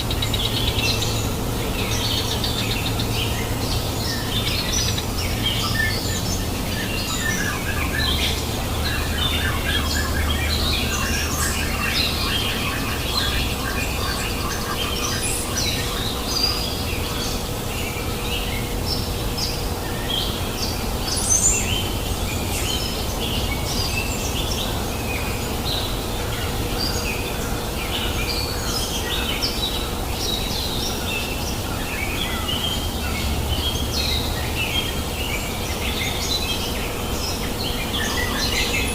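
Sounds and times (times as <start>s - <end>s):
birds chirping and whistling: 0.0s - 27.2s, 27.8s - 38.9s.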